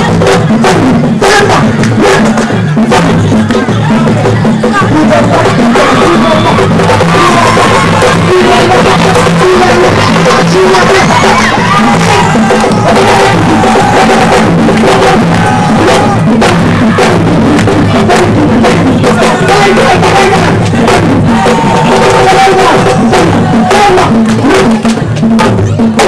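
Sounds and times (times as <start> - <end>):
loud dance music: 0.0 - 26.0.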